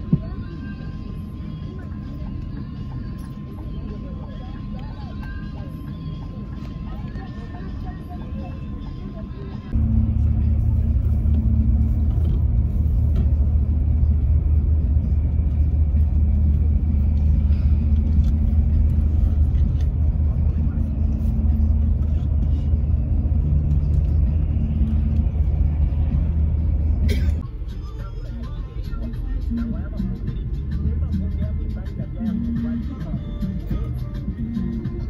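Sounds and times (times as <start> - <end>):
vehicle engine drone: 0.0 - 35.0
road noise: 5.2 - 35.0.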